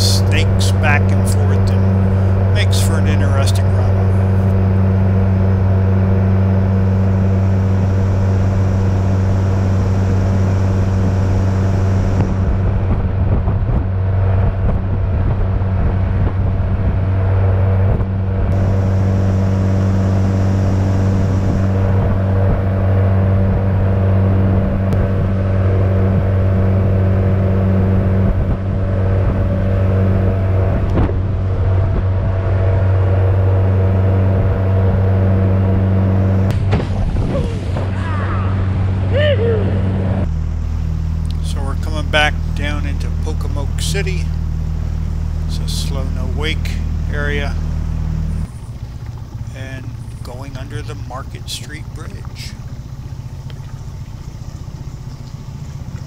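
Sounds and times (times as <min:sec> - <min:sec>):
outboard motor drone: 0:00.0 - 0:56.0.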